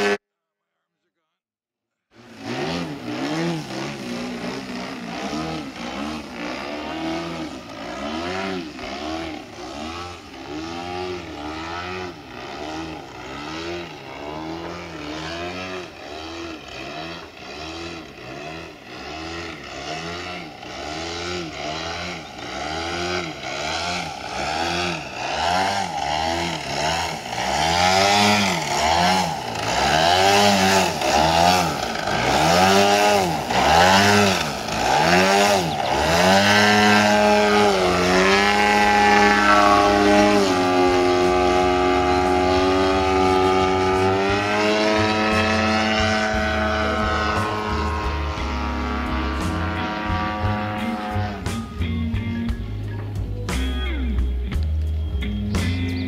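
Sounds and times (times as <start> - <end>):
model plane engine revving: 2.2 - 51.9.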